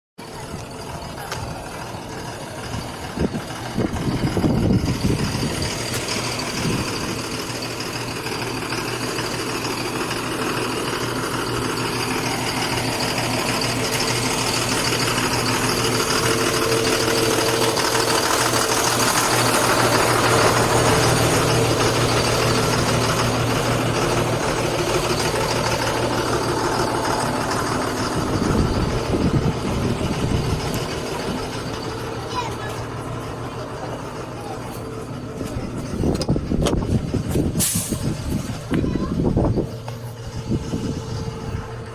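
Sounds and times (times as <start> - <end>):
truck diesel engine running: 0.2 - 41.9.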